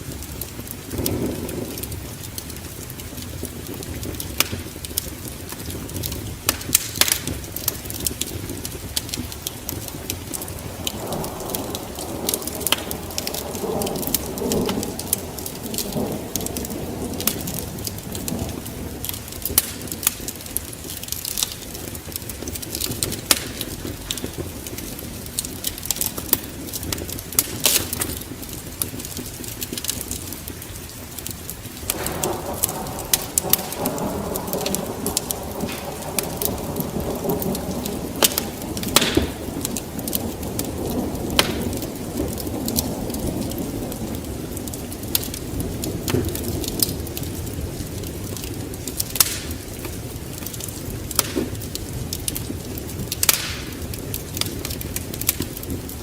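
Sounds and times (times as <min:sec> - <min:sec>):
falling rain: 0:00.0 - 0:56.0
thunder rumbling: 0:00.0 - 0:56.0
wood fire crackling: 0:00.0 - 0:56.0.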